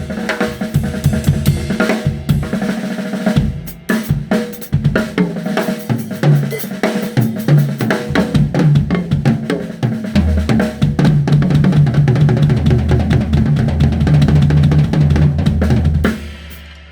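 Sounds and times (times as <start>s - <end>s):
drum kit playing: 0.0s - 16.9s.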